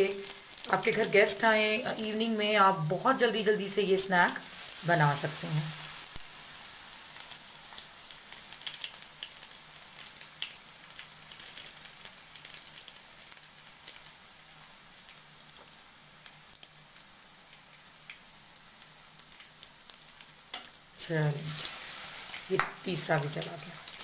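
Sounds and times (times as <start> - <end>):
food frying in hot oil: 0.0 - 24.0.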